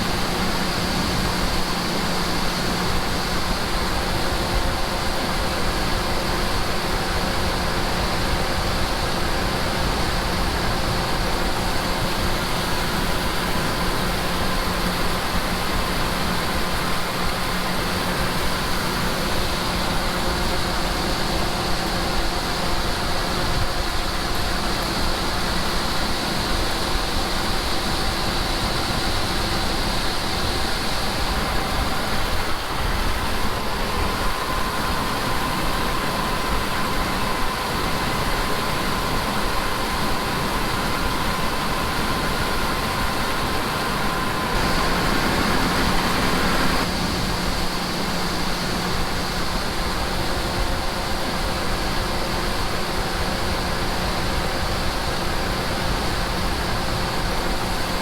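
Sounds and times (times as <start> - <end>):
farm machinery engine running: 0.0 - 54.1
steady high whine: 0.0 - 58.0.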